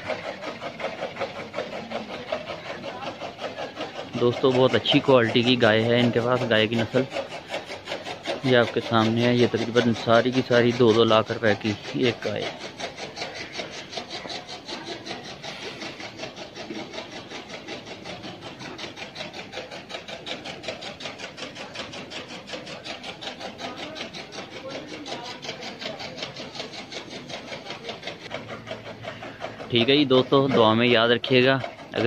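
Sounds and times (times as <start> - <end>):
machine running with pulsing beat: 0.0 - 32.0.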